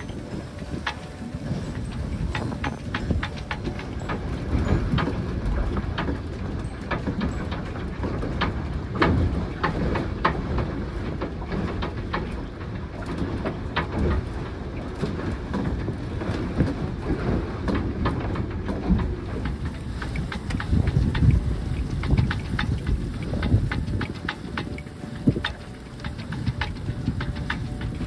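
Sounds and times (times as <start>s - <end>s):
water slapping against hull: 0.0s - 28.0s
wind buffeting microphone: 0.0s - 28.0s.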